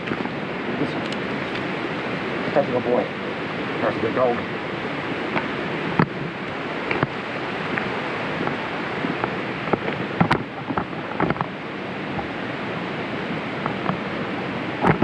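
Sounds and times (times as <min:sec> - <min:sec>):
running water: 0:00.0 - 0:15.0
wind: 0:00.0 - 0:15.0.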